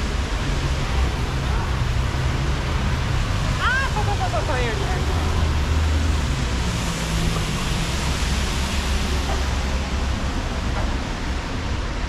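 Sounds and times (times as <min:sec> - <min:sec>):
rain on a wet street: 0:00.0 - 0:12.0
traffic rumble: 0:00.0 - 0:12.0.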